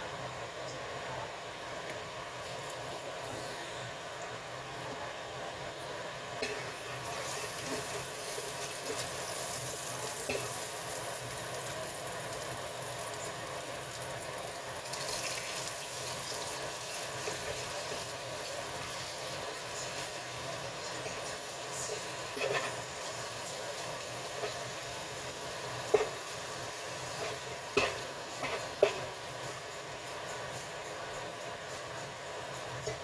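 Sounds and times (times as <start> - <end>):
oil sizzling in a wok: 0.0 - 33.0.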